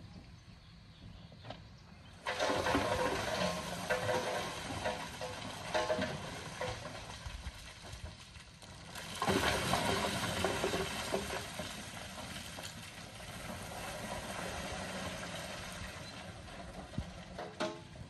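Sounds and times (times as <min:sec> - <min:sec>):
coal grab rattling and hissing: 0:02.2 - 0:18.0.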